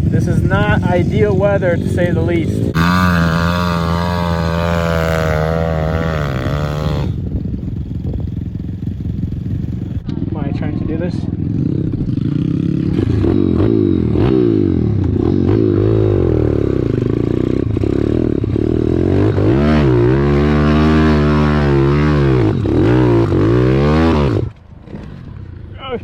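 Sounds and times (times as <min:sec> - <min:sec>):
pit bike engine revving: 0:00.0 - 0:10.2, 0:11.2 - 0:25.6.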